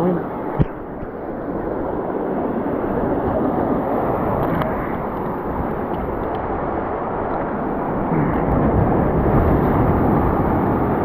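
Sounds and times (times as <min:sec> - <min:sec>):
surf breaking against rocks: 0:00.3 - 0:11.0.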